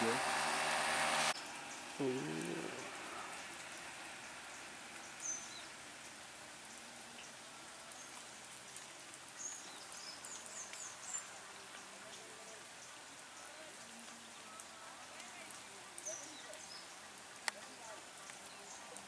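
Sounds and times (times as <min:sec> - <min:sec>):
light rain hissing: 0:00.0 - 0:19.0.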